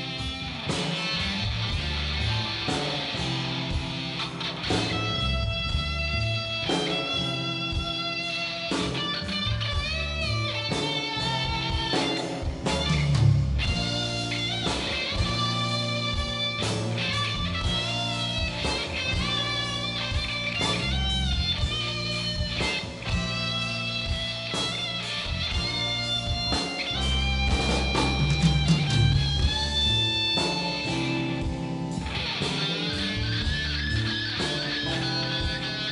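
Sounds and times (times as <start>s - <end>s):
bass guitar: 0.0s - 35.9s
drums: 0.0s - 35.9s
electric guitar lead line: 0.0s - 35.9s.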